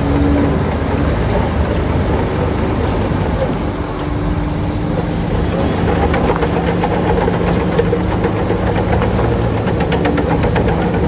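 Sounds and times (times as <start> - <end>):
heavy diesel engine running: 0.0 - 11.0
rapid clicking and clattering: 0.0 - 11.0.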